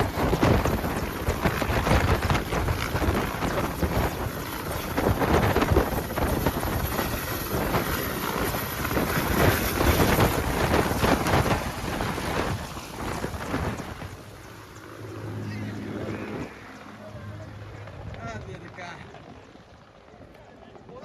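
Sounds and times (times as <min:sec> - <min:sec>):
helicopter rotor wash wind noise: 0:00.0 - 0:21.0.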